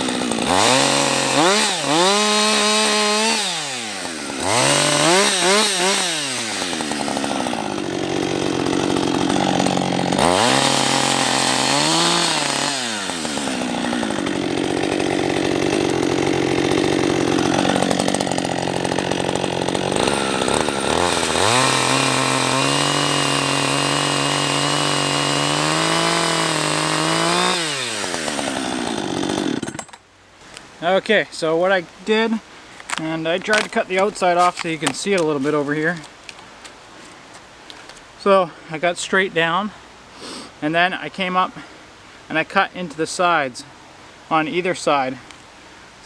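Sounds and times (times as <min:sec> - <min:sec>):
chainsaw cutting log: 0:00.0 - 0:30.6, 0:32.0 - 0:38.0, 0:40.2 - 0:40.5.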